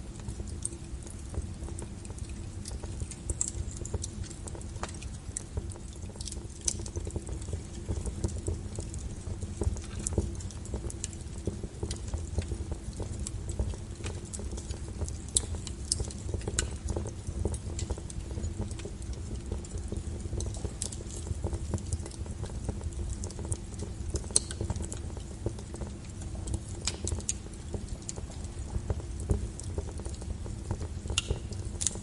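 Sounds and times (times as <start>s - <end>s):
fire crackling and popping: 0.0s - 32.0s
fire rumbling: 0.0s - 32.0s.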